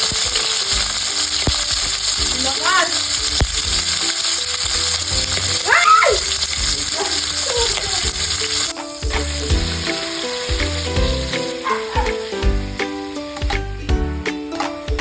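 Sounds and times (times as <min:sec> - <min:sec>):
music with bass and beat: 0:00.0 - 0:02.5, 0:03.1 - 0:05.6, 0:06.3 - 0:15.0
food sizzling in hot oil: 0:00.0 - 0:15.0.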